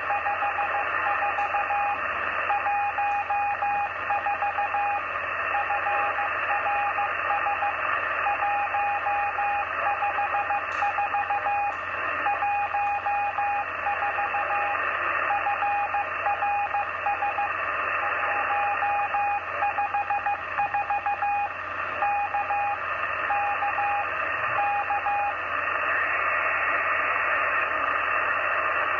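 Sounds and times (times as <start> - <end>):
morse code tone keyed on and off: 0.0 - 5.0, 5.6 - 17.6, 18.2 - 25.4
radio band hiss: 0.0 - 28.9.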